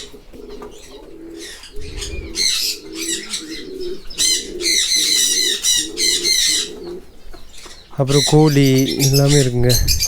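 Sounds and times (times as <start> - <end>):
pigeons cooing: 0.0 - 10.0
small birds chirping: 0.0 - 10.0.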